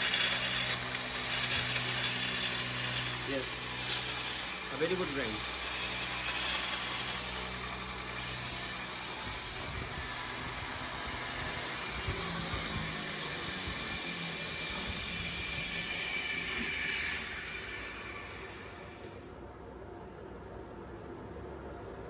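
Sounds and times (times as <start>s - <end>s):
belt grinder grinding metal: 0.0s - 19.2s.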